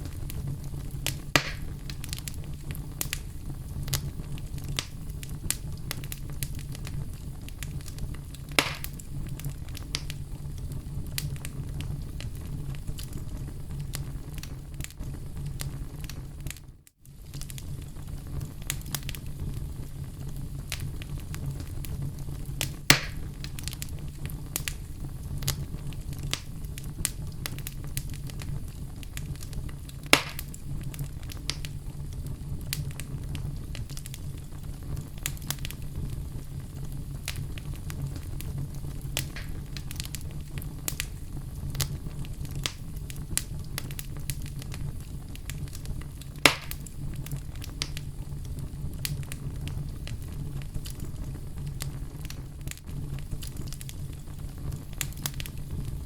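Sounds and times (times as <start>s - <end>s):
fire crackling and popping: 0.0s - 56.0s
fire low rumble: 0.0s - 56.0s.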